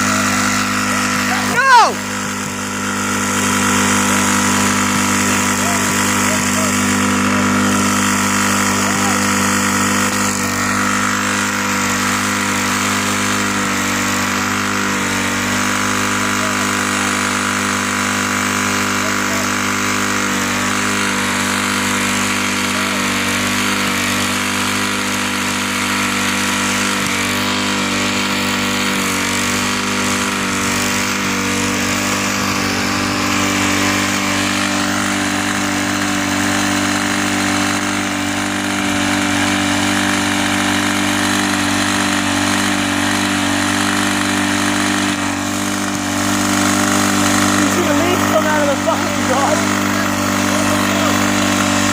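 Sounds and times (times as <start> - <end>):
go-kart engine running steadily: 0.0 - 51.9.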